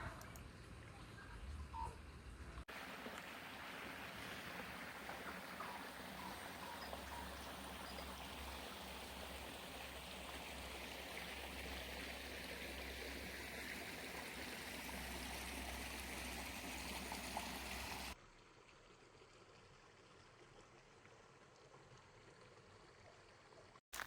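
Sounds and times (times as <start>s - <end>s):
stream water flowing: 2.7s - 24.0s.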